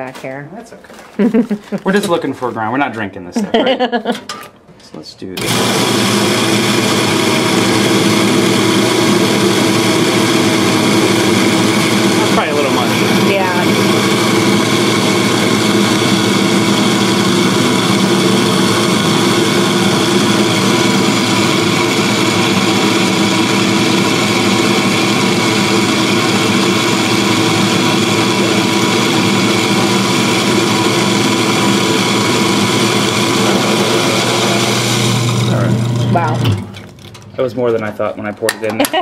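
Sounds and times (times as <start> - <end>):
coffee grinder grinding beans: 5.4 - 37.2.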